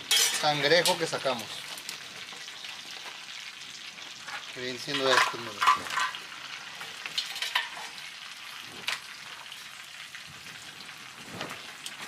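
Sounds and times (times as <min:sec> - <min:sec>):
butter sizzling on griddle: 0:00.0 - 0:12.0.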